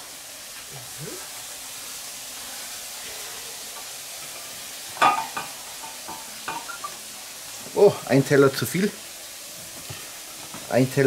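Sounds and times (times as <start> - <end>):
burger patties sizzling: 0.0 - 11.0.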